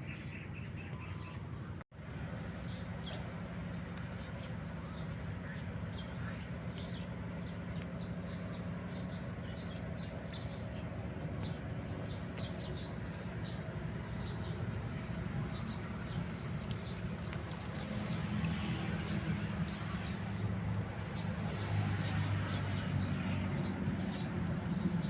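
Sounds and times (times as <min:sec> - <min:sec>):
steady low rumble: 0:03.1 - 0:25.0
small birds chirping: 0:04.0 - 0:25.0.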